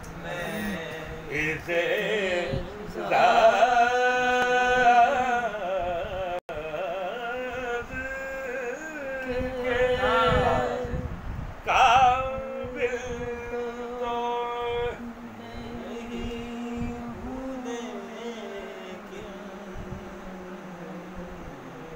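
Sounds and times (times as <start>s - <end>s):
man singing unaccompanied: 0.0s - 21.9s.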